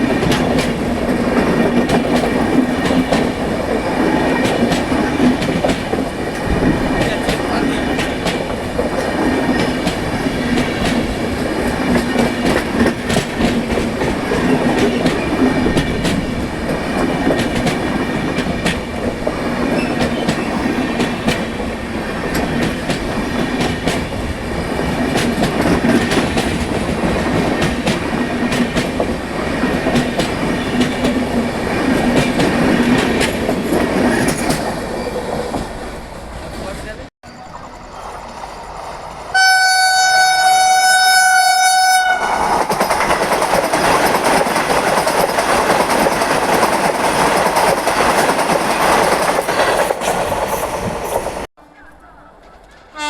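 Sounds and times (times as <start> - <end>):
wheels clacking over rail joints: 0.0 - 37.0, 42.3 - 52.9
train coaches rumbling on track: 0.0 - 53.0.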